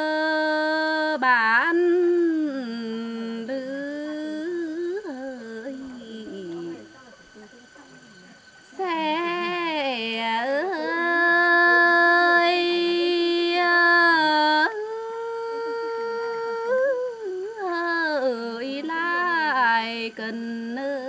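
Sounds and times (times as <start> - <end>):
woman singing unaccompanied folk song: 0.0 - 7.3, 8.6 - 21.0.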